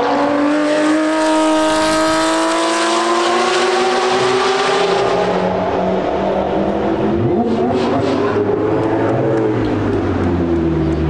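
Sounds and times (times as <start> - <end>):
car accelerating: 0.0 - 11.0
sports car engine high-pitched: 0.0 - 11.0.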